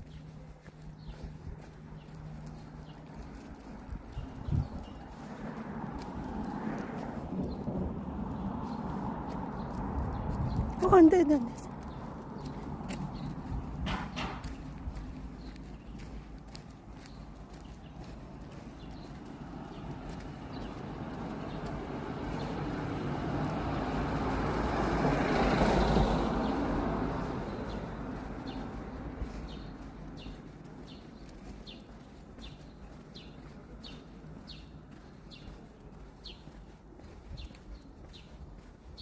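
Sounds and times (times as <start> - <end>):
vehicle passing by: 0.1 - 39.0.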